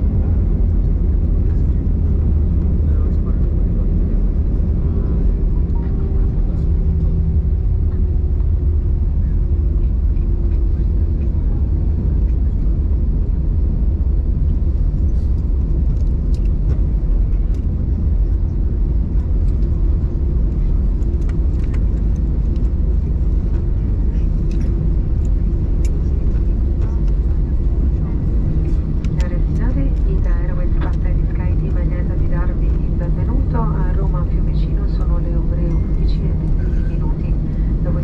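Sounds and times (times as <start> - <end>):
faint steady hum: 0.0 - 38.0
low rumble of jet engines: 0.0 - 38.0
wheels rumbling on runway: 0.0 - 38.0.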